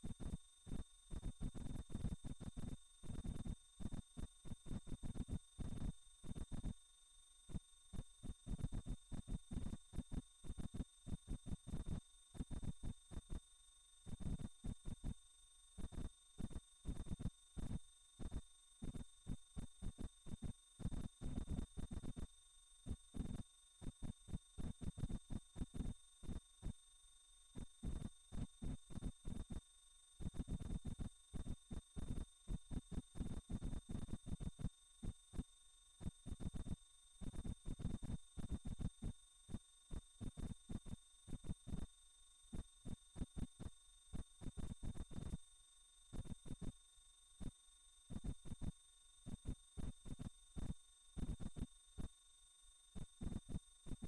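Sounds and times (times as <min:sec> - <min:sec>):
high-pitched pulsing sine tone: 0:00.0 - 0:54.0.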